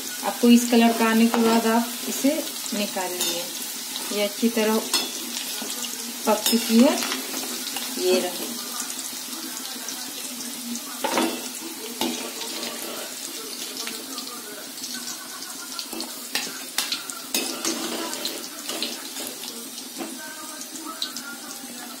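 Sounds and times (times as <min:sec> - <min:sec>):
food deep-frying in hot oil: 0:00.0 - 0:22.0.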